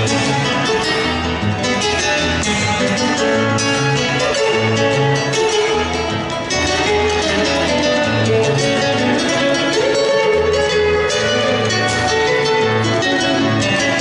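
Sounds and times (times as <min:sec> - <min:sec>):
polka on acoustic guitar: 0:00.0 - 0:14.0.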